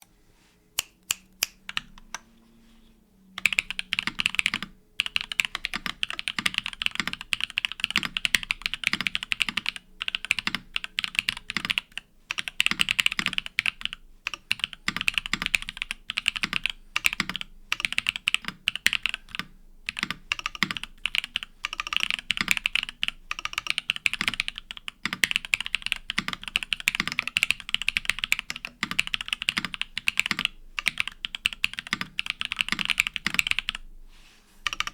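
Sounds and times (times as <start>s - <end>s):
typing on mechanical keyboard: 3.4s - 33.8s, 34.6s - 34.9s.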